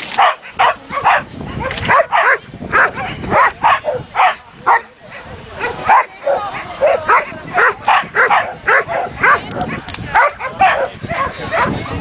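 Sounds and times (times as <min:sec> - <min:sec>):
dog barking: 0:00.2 - 0:04.9, 0:05.6 - 0:11.8.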